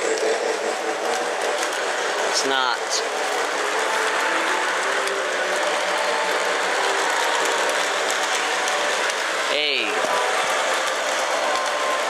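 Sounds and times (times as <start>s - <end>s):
model train whirring: 0.0s - 12.0s.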